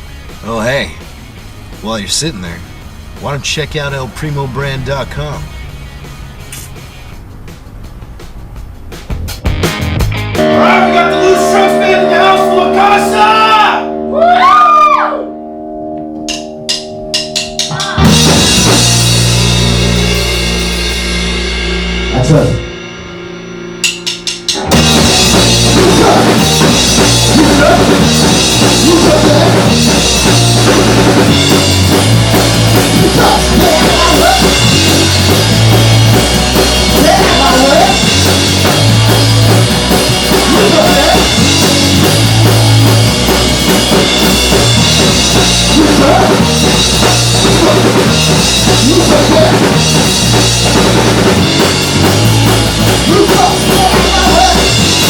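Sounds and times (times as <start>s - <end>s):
rock band playing loud: 0.0s - 55.0s.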